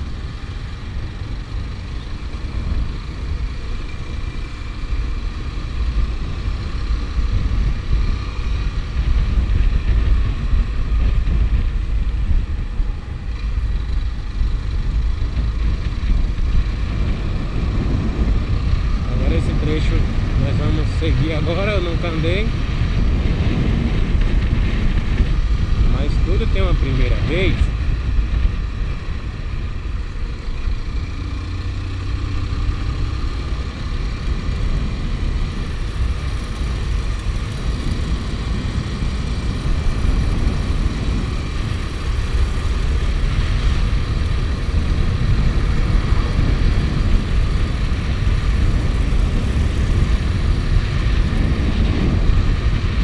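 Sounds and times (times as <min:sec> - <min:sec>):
motorcycle engine running: 0:00.0 - 0:53.0
wind buffeting microphone: 0:00.0 - 0:53.0.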